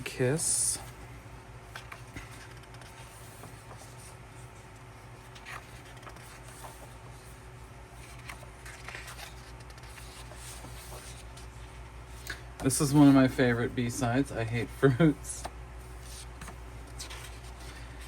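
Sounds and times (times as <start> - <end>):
steady low hum: 0.0 - 18.0
pages turning and rustling: 1.7 - 7.4, 8.0 - 14.2, 15.0 - 18.0.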